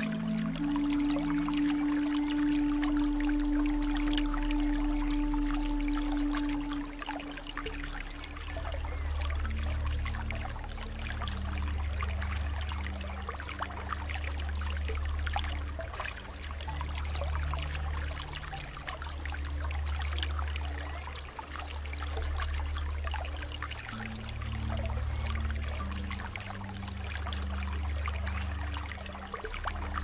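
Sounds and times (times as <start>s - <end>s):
droning held notes: 0.0s - 30.0s
water trickling: 0.0s - 30.0s.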